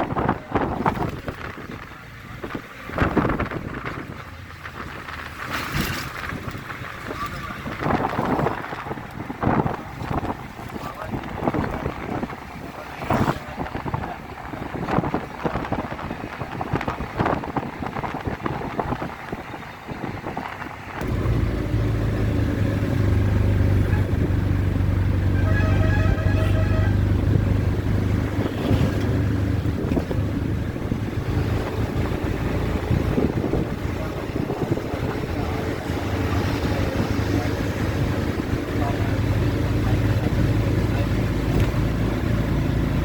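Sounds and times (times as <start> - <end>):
wind buffeting microphone: 0.0 - 25.4, 26.0 - 43.0
low engine hum: 0.0 - 43.0.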